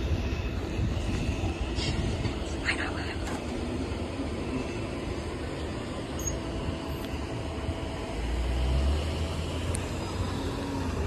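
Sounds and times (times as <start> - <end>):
low rumble of road vehicles: 0.0 - 11.0.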